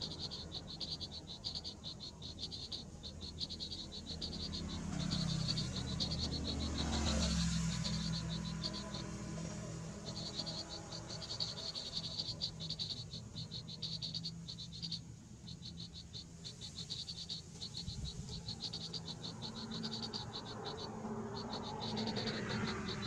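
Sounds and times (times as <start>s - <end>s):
pulsed chirps of frogs or insects: 0.0s - 23.0s
steady low hum: 0.0s - 23.0s.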